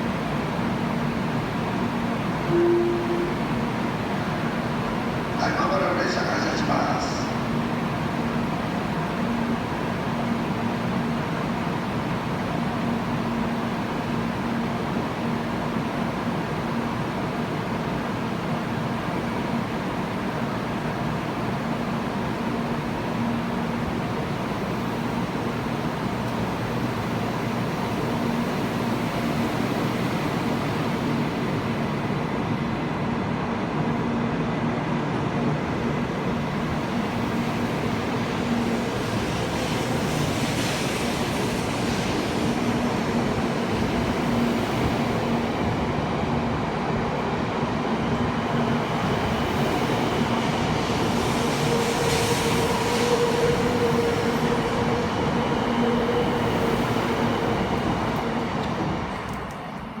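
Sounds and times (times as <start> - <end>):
train rumbling past: 0.0 - 60.0.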